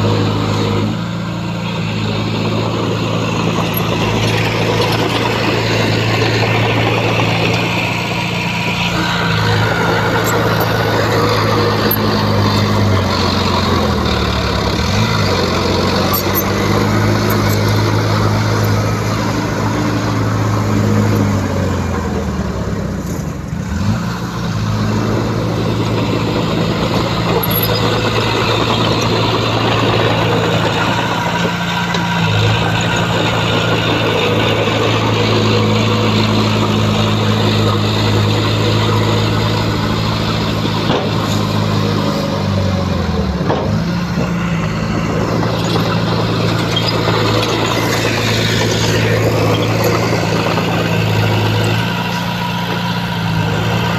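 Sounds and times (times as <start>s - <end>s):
heavy diesel engine working: 0.0s - 53.9s.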